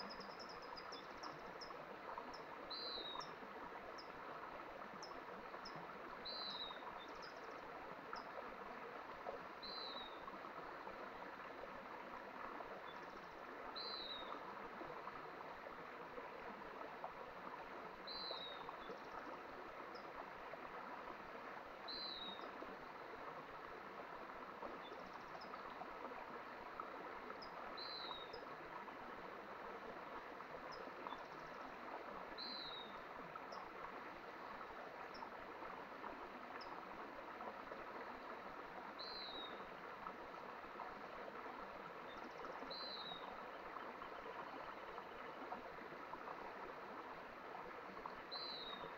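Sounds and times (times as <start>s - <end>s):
mountain stream running: 0.0s - 48.9s.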